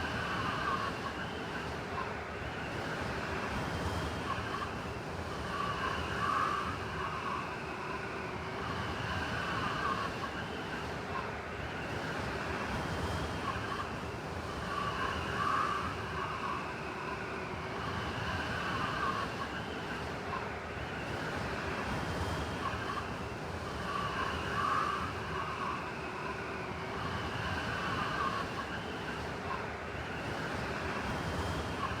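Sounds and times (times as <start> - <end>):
howling wind with whistle: 0.0 - 32.0.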